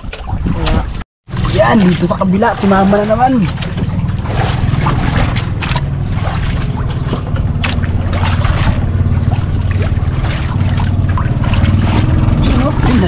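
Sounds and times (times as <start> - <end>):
small boat engine droning: 1.3 - 13.0.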